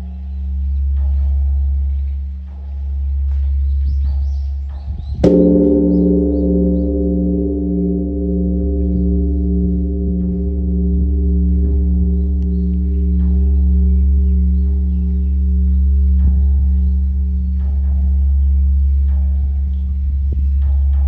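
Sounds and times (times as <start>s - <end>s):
large temple bell ringing: 0.0s - 4.4s, 5.2s - 21.0s.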